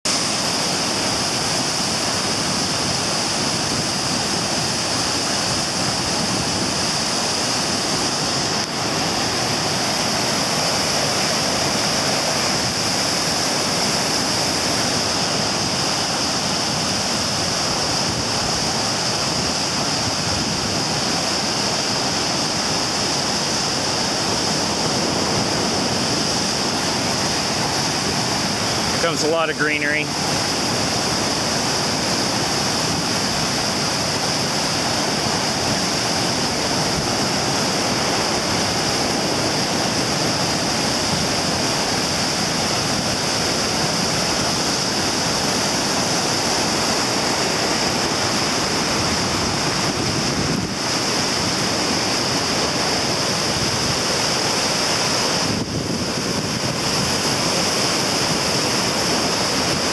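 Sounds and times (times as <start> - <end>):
floodwater rushing through breach: 0.1 - 59.9.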